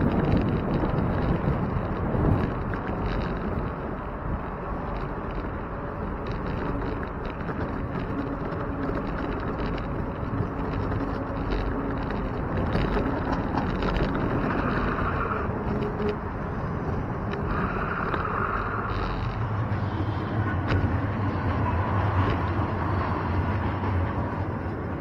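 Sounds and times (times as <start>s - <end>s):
bicycle rattling on pavement: 0.0s - 25.0s
wind rushing over microphone: 0.0s - 25.0s.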